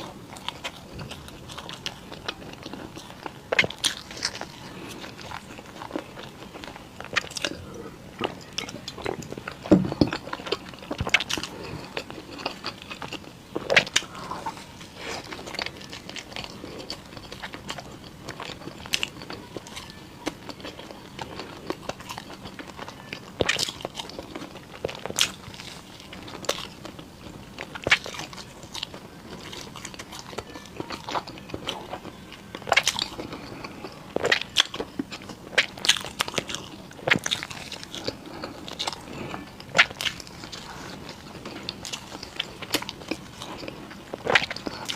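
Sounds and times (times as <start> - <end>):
person biting and chewing food: 0.0 - 44.9.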